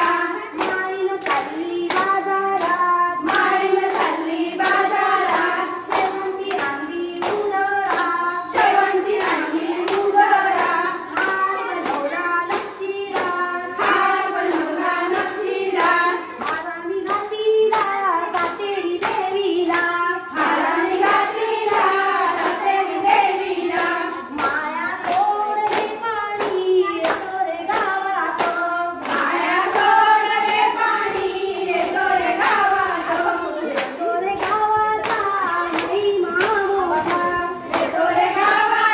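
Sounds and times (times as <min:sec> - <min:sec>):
rhythmic handclaps: 0:00.0 - 0:38.9
women singing folk song: 0:00.0 - 0:38.9.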